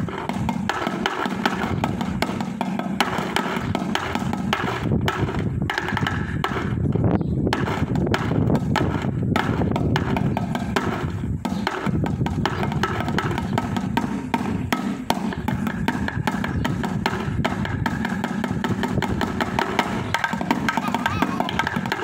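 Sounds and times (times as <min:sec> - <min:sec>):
sticks drumming on paint cans: 0:00.0 - 0:06.8, 0:07.5 - 0:22.0.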